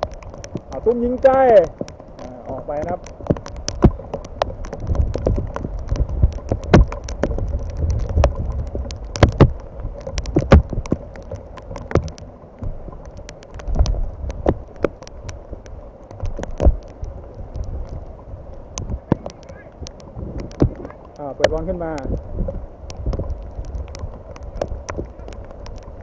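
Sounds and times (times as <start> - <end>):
raindrops tapping microphone: 0.0 - 26.0.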